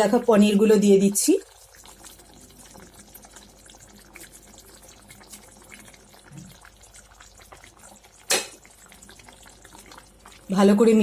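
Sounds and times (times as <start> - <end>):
gravy bubbling in a pan: 0.0 - 11.0.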